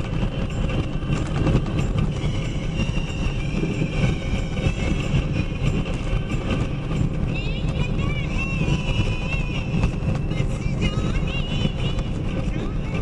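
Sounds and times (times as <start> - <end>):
moving vehicle rumbling and rattling: 0.0 - 13.0.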